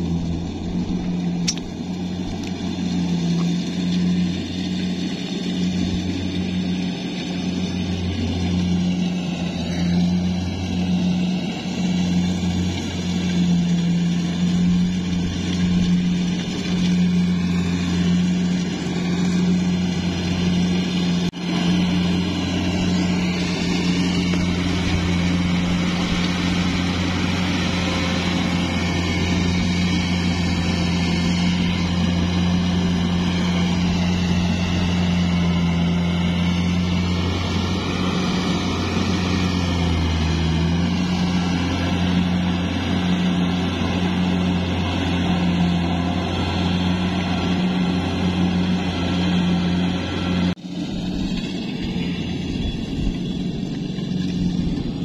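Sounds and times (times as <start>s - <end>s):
combine harvester diesel engine: 0.0s - 55.0s.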